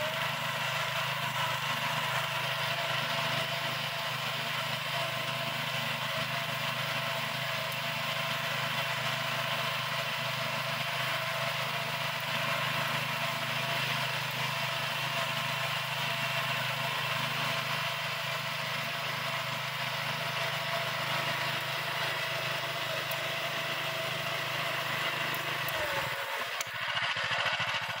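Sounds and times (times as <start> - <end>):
small petrol engine running: 0.0 - 28.0.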